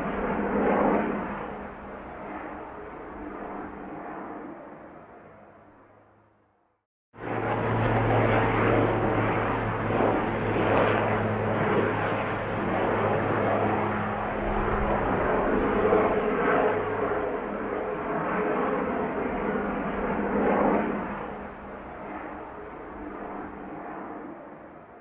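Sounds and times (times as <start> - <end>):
helicopter engine and rotors: 0.0 - 6.4, 7.2 - 25.0.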